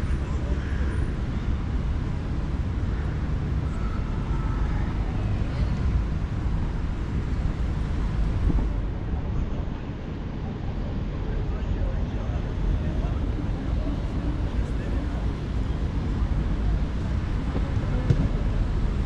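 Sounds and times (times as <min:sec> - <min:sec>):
faint voices: 0:00.0 - 0:19.0
traffic rumble: 0:00.0 - 0:19.0.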